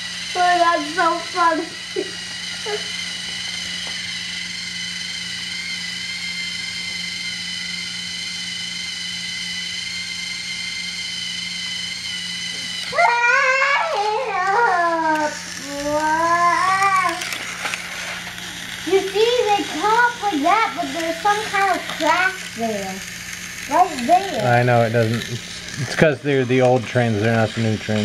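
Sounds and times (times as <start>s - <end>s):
toy train motor whining: 0.0s - 28.0s.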